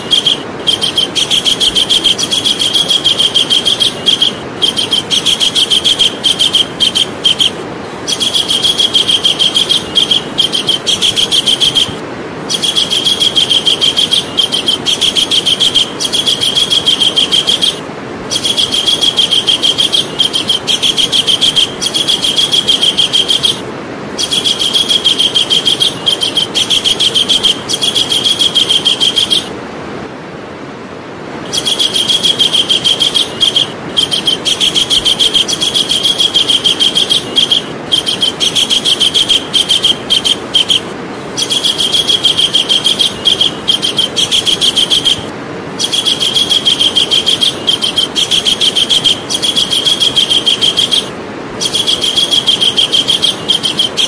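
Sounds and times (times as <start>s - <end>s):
kingfisher rapid trills: 0.0s - 29.6s, 31.4s - 54.0s
background hiss: 0.0s - 54.0s.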